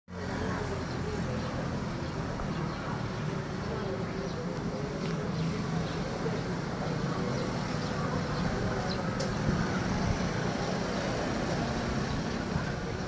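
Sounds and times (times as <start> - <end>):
street traffic hum: 0.1 - 13.0.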